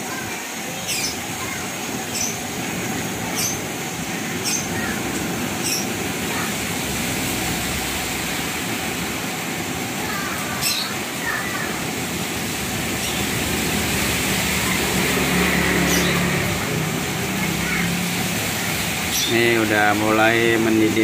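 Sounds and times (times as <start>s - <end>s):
syrup hissing and bubbling: 0.0s - 21.0s.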